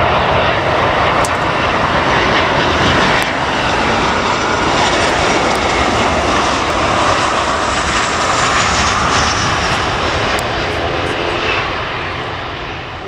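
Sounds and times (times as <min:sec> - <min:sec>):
airliner engines passing close: 0:00.0 - 0:13.0.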